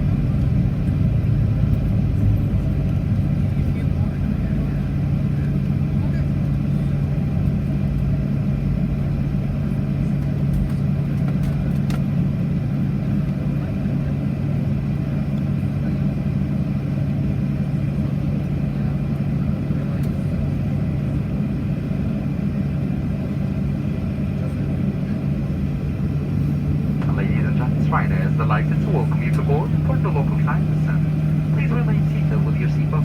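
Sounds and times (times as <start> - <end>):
airplane cabin hum and rumble: 0.0 - 33.0.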